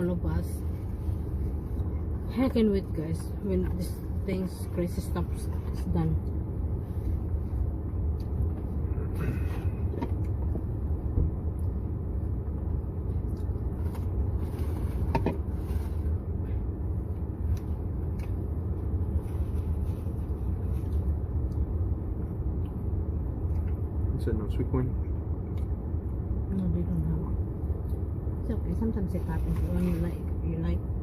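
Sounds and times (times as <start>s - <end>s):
car engine rumbling: 0.0s - 31.0s.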